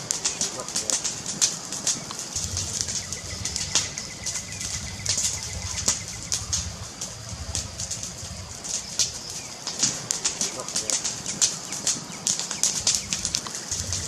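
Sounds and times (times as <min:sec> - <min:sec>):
low rumble: 0:00.0 - 0:11.5
wood fire crackling: 0:00.0 - 0:14.0.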